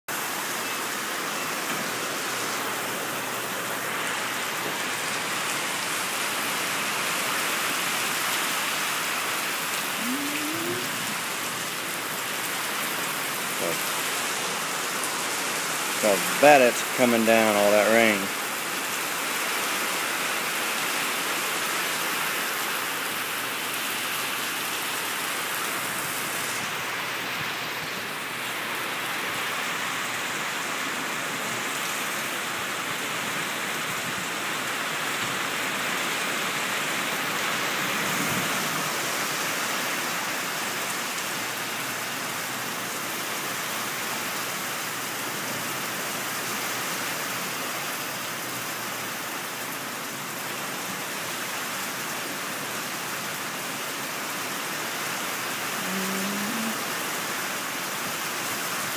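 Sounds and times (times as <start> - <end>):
heavy rain on pavement: 0.1 - 58.9.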